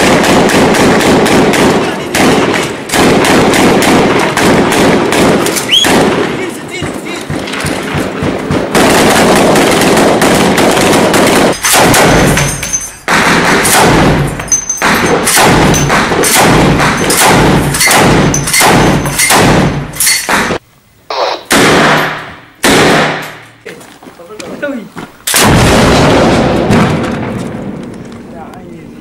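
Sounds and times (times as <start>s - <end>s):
rifle shots: 0.0s - 23.4s, 25.2s - 28.0s.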